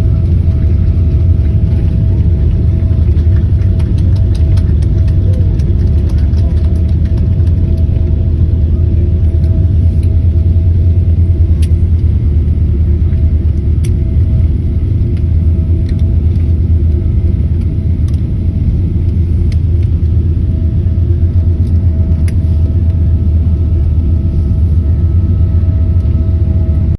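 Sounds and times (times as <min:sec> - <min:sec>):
airliner cabin rumble: 0:00.0 - 0:26.9
steady hum tone: 0:00.0 - 0:26.9.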